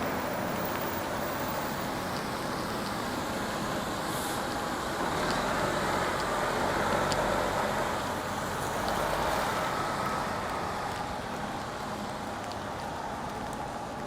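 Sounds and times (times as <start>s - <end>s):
faint rain ticks: 0.0s - 14.0s
tyres hissing on wet road: 0.0s - 14.0s.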